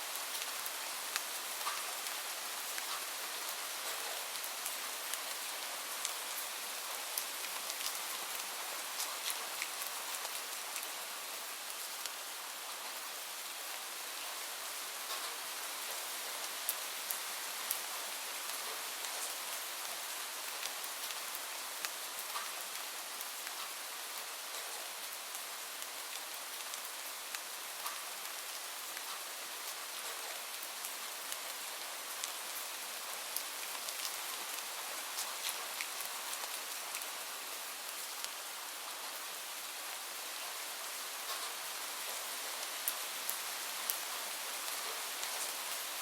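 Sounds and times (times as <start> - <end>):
light rain hissing: 0.0 - 46.0
raindrops ticking on a surface: 0.1 - 46.0.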